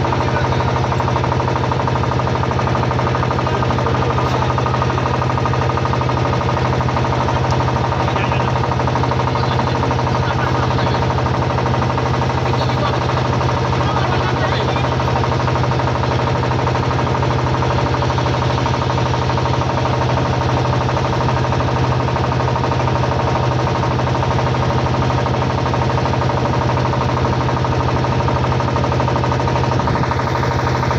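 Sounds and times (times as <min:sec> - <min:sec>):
motorboat engine running: 0:00.0 - 0:30.9.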